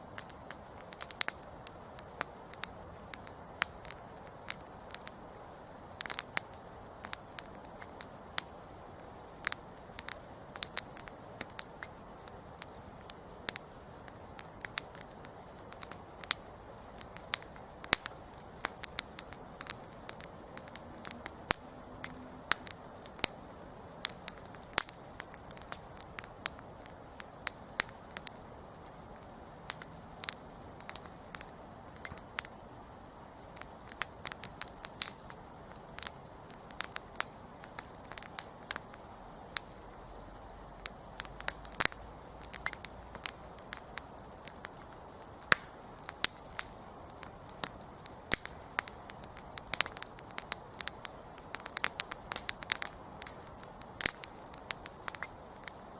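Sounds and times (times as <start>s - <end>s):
campfire crackling and popping: 0.0s - 55.9s
hiss of burning: 0.0s - 55.9s.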